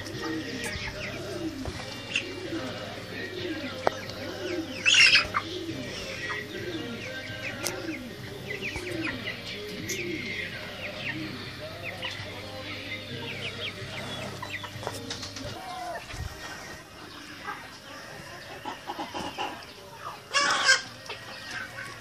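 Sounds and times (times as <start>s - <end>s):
chickens calling: 0.0s - 22.0s.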